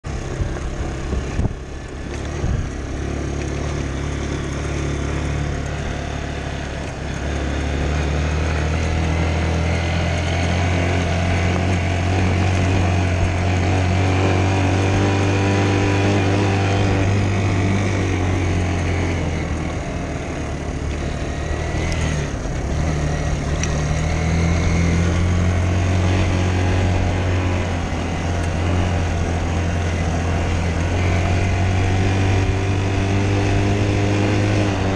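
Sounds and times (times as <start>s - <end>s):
dirt bike engine: 0.0s - 34.9s.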